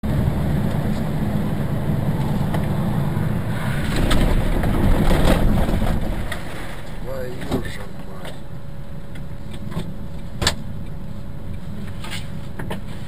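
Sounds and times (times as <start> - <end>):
engine rumble: 0.0 - 13.0
tyres on a wet road: 0.0 - 13.0.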